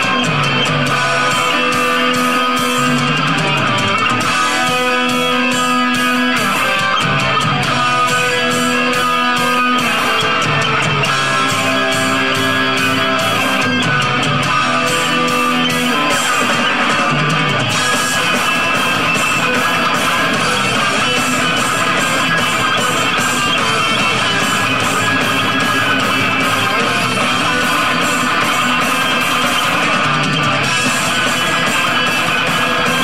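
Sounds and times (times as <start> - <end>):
bass: 0.0 - 33.0
drums: 0.0 - 33.0
electric guitars holding long notes: 0.0 - 33.0.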